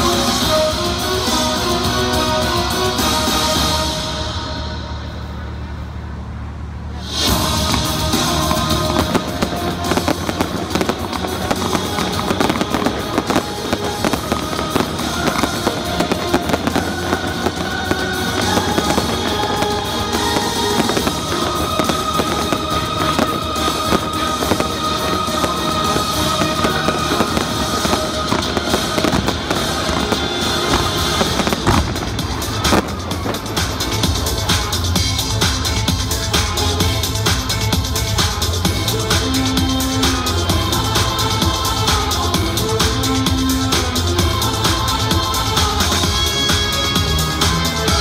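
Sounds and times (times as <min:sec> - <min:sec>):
music soundtrack: 0:00.0 - 0:48.0
fireworks popping and crackling: 0:07.1 - 0:48.0.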